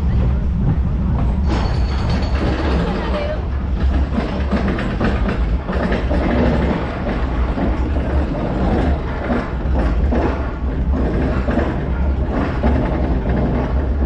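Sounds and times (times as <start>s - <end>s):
roller coaster rumble: 0.0s - 14.0s
track clacking: 0.0s - 14.0s.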